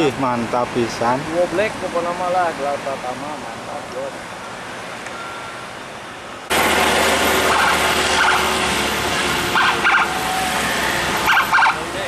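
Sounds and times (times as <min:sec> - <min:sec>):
bus running close by: 0:00.0 - 0:12.0
road traffic noise: 0:00.0 - 0:12.0.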